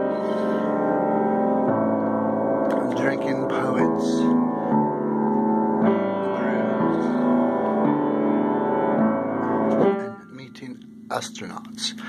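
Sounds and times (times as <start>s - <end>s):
keyboard playing held chords: 0.0s - 12.0s.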